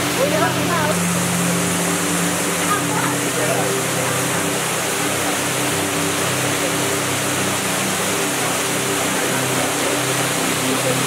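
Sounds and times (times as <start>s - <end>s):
river water flowing over rocks: 0.0s - 11.0s
soft background music: 0.0s - 11.0s.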